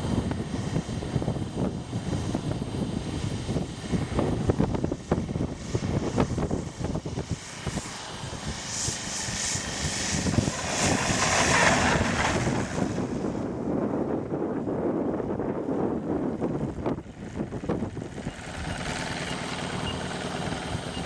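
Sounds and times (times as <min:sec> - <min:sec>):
model airplane motor and propeller: 0:00.0 - 0:21.0
wind buffeting microphone: 0:00.0 - 0:21.0.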